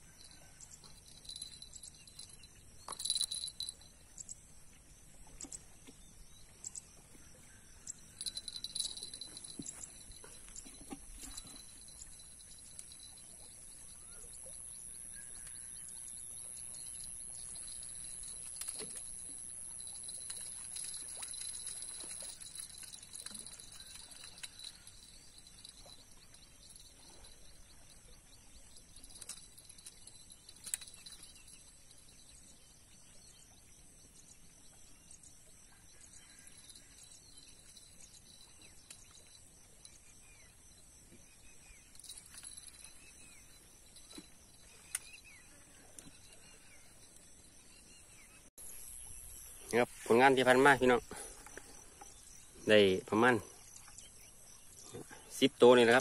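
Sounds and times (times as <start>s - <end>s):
insect chorus chirring: 0.0s - 56.0s.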